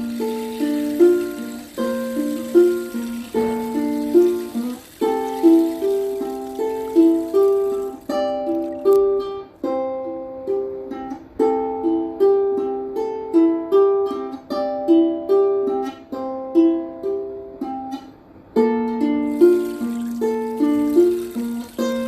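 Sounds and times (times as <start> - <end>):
ukulele strumming chords: 0.0 - 22.0.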